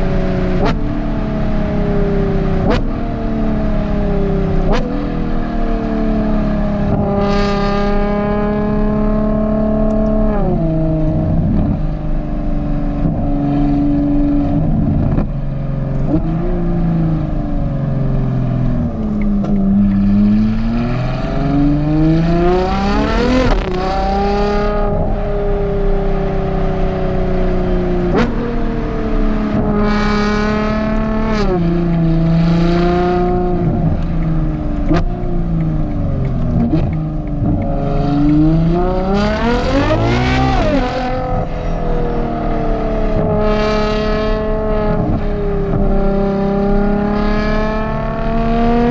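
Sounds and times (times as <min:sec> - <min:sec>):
car engine pulling through gears: 0:00.0 - 0:48.9.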